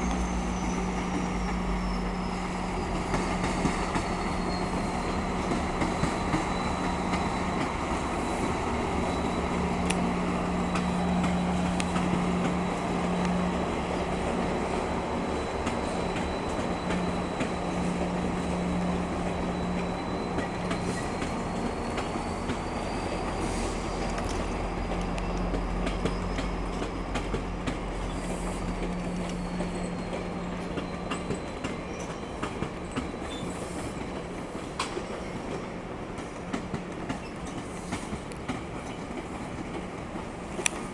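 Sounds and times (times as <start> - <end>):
high-pitched wheel squeal: 0.0 - 27.2, 28.0 - 34.0
train wheels clicking over joints: 0.0 - 40.9.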